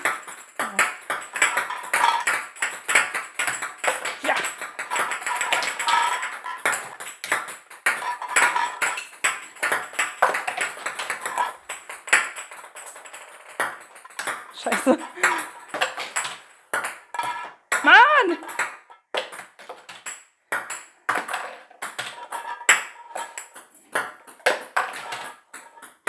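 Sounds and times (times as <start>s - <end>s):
plastic balls clicking and tapping: 0.0s - 26.0s.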